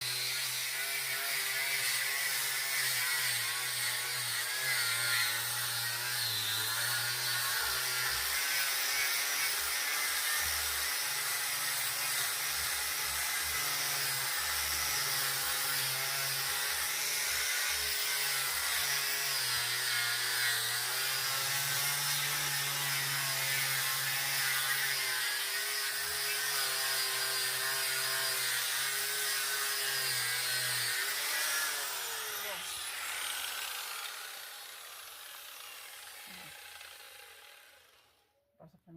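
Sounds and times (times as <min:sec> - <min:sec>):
power tool motor humming: 0:00.0 - 0:38.2.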